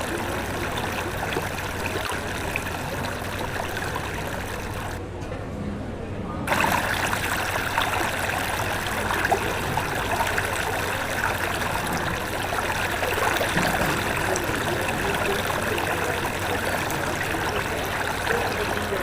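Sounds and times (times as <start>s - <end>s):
floodwater rushing: 0.0s - 5.0s, 6.5s - 19.0s.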